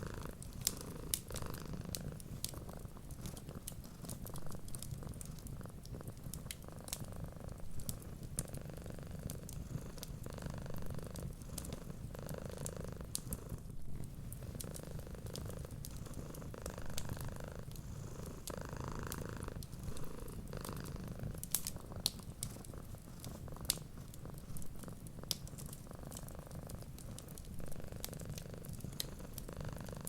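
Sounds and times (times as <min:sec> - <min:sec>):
cat purring: 0:00.0 - 0:30.0
wood fire crackling: 0:00.0 - 0:30.0.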